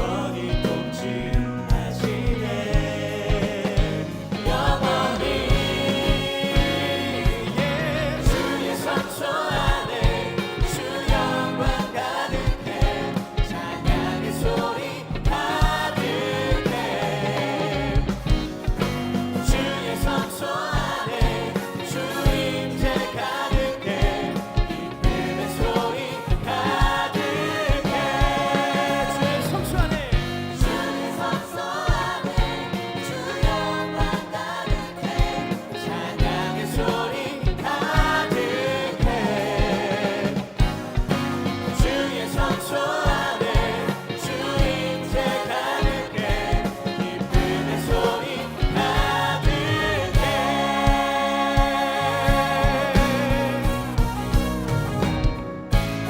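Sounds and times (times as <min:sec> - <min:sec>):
group of singers: 0:00.0 - 0:56.0
steady drum beat: 0:00.0 - 0:56.0.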